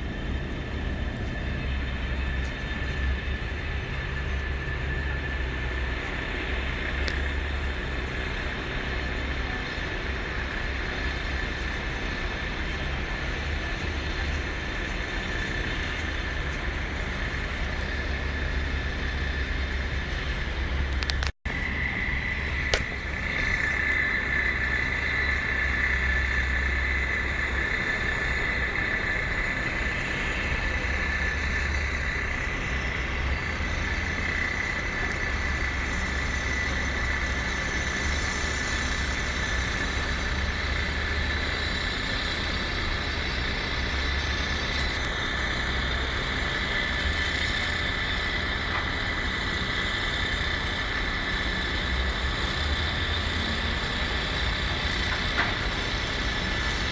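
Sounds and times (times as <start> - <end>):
high-pitched whine: 0.0 - 56.9
machinery noise: 0.0 - 56.9
traffic noise: 0.0 - 56.9
wind rumbling on microphone: 0.0 - 56.9.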